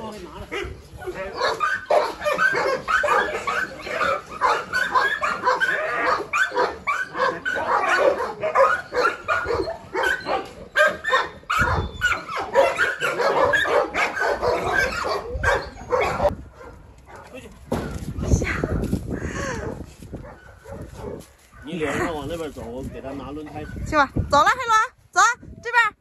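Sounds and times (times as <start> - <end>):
dogs barking and yipping: 0.4 - 24.6.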